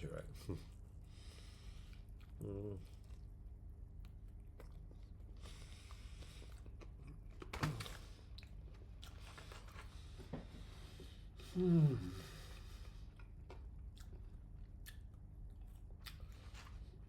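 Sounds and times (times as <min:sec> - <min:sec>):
person chewing chicken: 0:00.7 - 0:11.4, 0:12.4 - 0:17.0.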